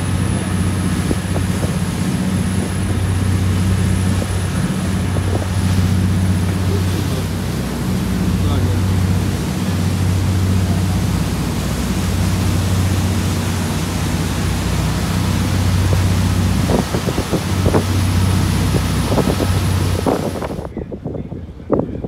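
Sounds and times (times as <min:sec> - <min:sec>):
boat engine droning: 0:00.0 - 0:20.8
wind rushing: 0:00.0 - 0:21.4
churning wake: 0:00.0 - 0:22.0
wind buffets: 0:00.0 - 0:22.0.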